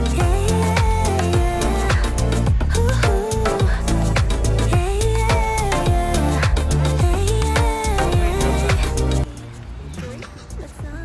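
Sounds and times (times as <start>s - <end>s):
deep bass line: 0.0s - 9.3s
steady drum beat: 0.0s - 9.3s
gliding lead melody: 0.0s - 9.4s.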